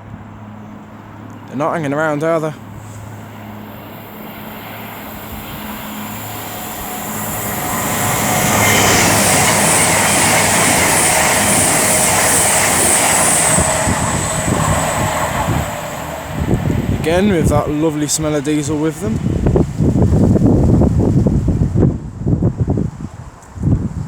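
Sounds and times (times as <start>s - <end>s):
diesel train passing at speed: 0.0s - 23.3s
high whine: 0.7s - 20.1s.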